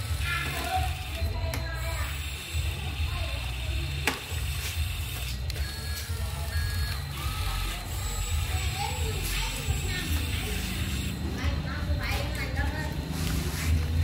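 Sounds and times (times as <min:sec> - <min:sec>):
small electric motors whining: 0:00.0 - 0:14.0.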